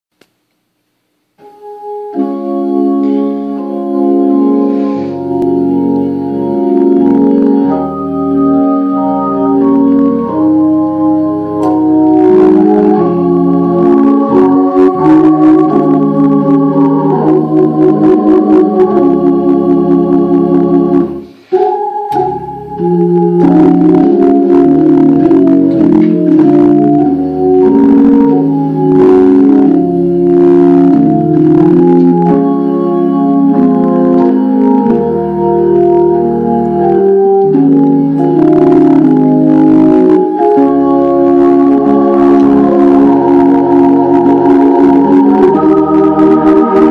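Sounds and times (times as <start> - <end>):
organ chords: 0.6 - 46.9
low bass line: 3.7 - 21.3, 22.1 - 46.9.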